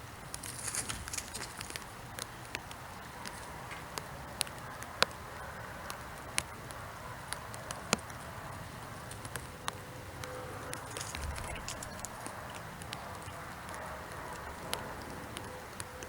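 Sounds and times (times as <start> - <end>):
raindrops ticking and tapping: 0.0 - 16.0
soft steady rain hiss: 0.0 - 16.0.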